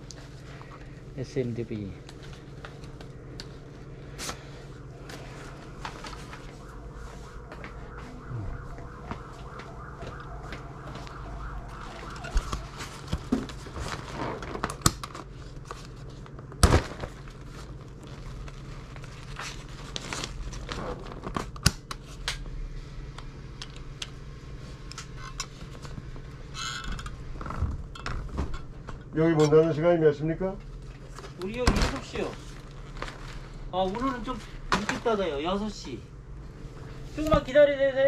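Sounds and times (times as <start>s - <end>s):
electrical hum: 0.0s - 38.0s.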